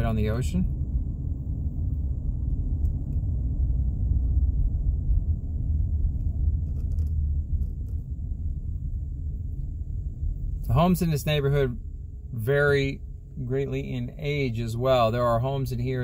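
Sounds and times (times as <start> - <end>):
car driving road noise: 0.0 - 16.0.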